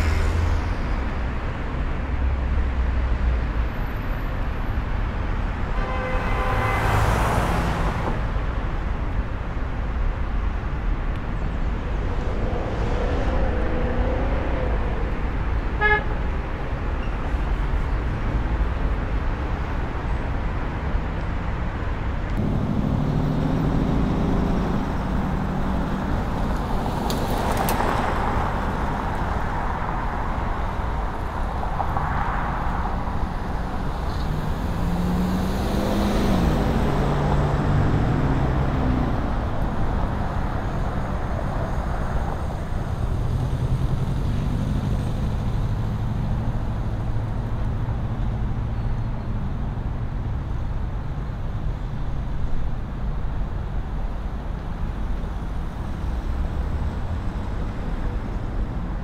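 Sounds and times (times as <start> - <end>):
cars passing: 0.0 - 59.0
hum of engines: 0.0 - 59.0.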